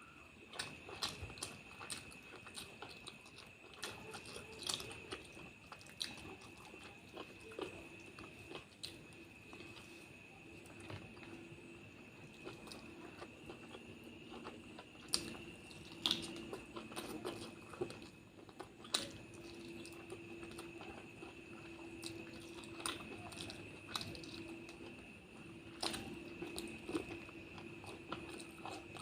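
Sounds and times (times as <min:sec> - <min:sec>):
faint high whine: 0:00.0 - 0:29.0
person chewing food: 0:00.4 - 0:29.0.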